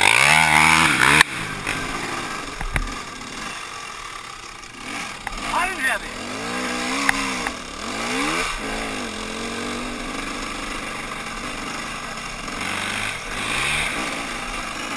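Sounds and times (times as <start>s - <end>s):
dirt bike engine running: 0.0s - 14.9s.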